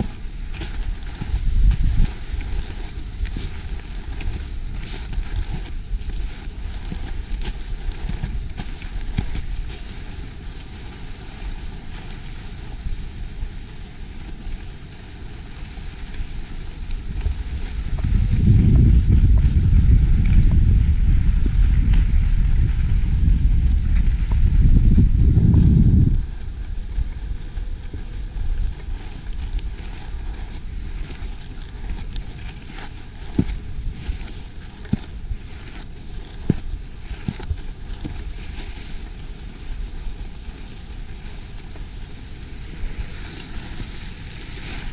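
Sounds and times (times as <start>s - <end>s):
skis scraping over snow: 0.0s - 44.9s
wind buffeting microphone: 0.0s - 44.9s.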